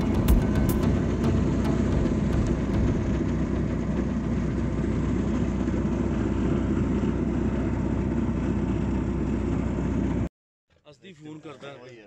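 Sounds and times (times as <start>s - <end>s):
motorboat engine drone: 0.0s - 10.3s.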